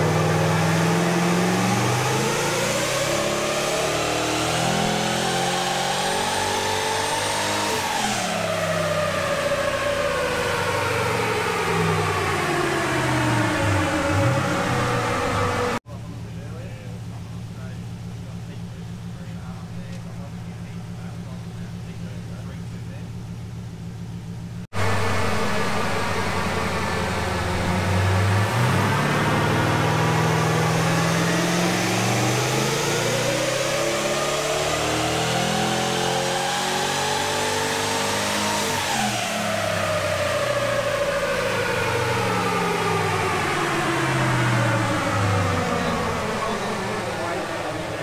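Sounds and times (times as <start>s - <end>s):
engine revving on a dyno: 0.0s - 23.0s, 24.6s - 48.0s.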